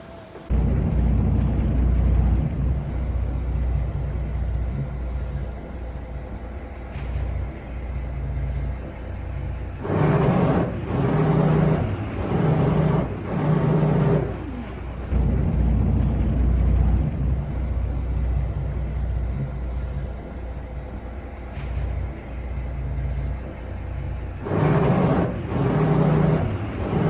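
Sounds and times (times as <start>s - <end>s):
boat engine rumbling: 0.0s - 27.0s.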